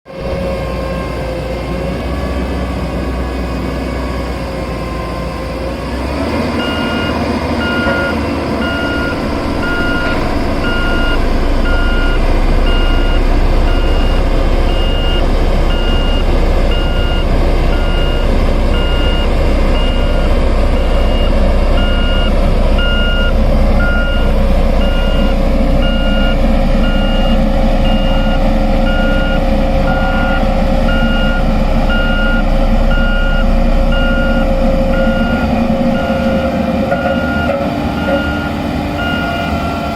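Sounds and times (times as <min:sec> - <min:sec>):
diesel engine rumbling: 0:00.1 - 0:39.9
reversing alarm beeping: 0:00.2 - 0:01.6, 0:04.8 - 0:39.9.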